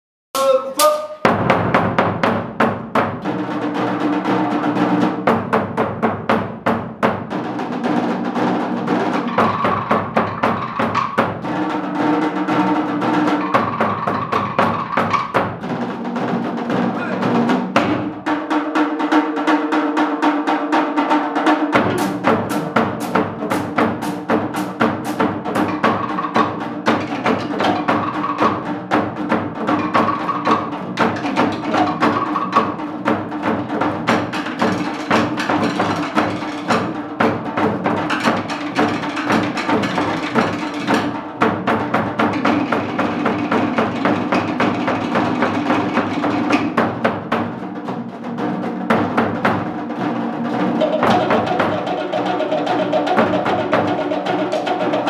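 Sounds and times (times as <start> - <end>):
deep drum strokes: 0.4 - 19.0, 21.6 - 55.0
fast rolling slit drums: 0.4 - 55.0.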